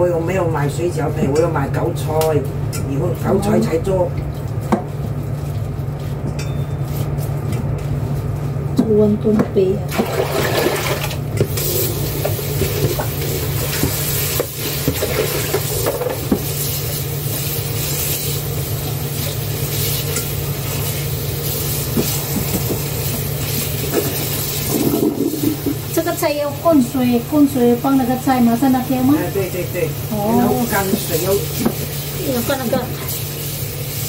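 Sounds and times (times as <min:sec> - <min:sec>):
extractor fan running: 0:00.0 - 0:34.0.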